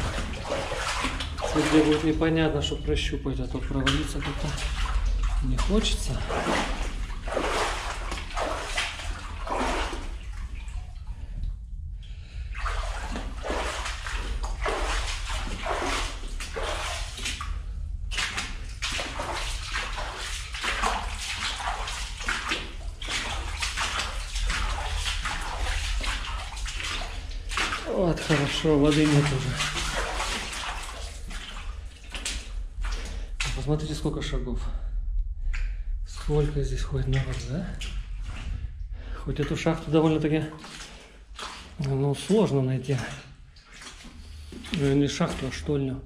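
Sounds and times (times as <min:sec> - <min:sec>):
footsteps wading through shallow water: 0:00.0 - 0:46.0.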